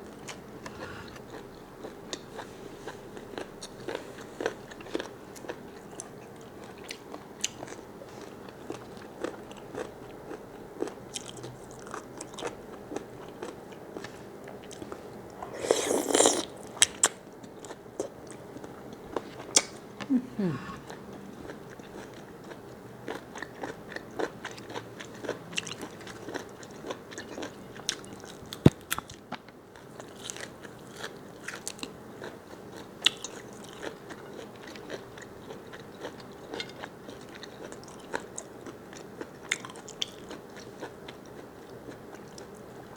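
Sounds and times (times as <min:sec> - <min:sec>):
chewing squid: 0:00.1 - 0:42.9.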